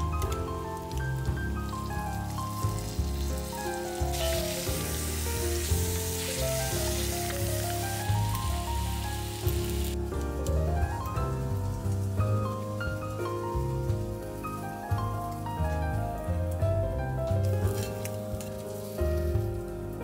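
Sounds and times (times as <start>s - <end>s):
soft background music: 0.0s - 20.0s
food sizzling in oil: 0.8s - 15.4s, 17.6s - 20.0s.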